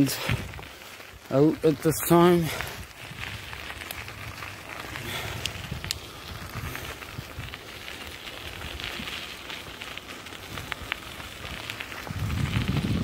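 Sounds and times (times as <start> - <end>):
bicycle tyres on gritty path: 0.0 - 13.0.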